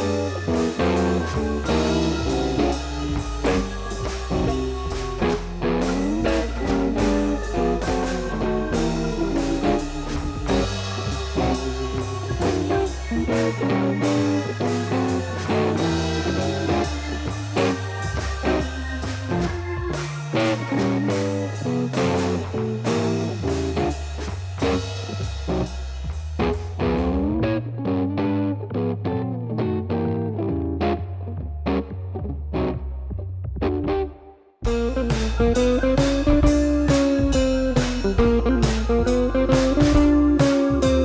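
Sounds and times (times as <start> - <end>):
blues-rock music with guitar: 0.0 - 41.0.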